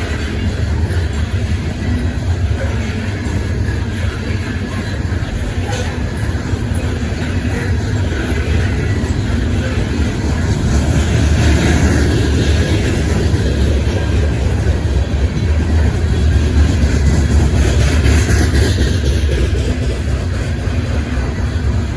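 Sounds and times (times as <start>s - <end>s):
train rumbling past: 0.0s - 21.9s.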